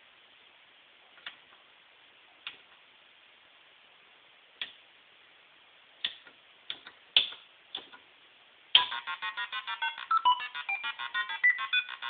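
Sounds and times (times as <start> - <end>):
faint steady hiss: 0.0 - 11.8.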